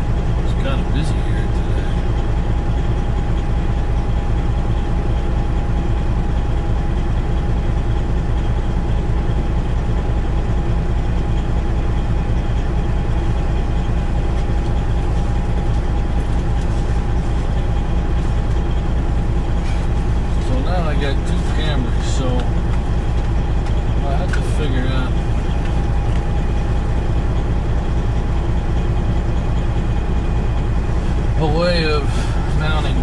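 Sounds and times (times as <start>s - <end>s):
truck diesel engine idling: 0.0s - 33.0s.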